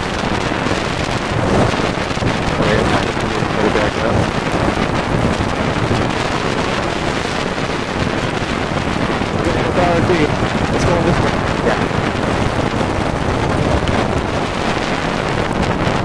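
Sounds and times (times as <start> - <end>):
storm wind on microphone: 0.0 - 16.0.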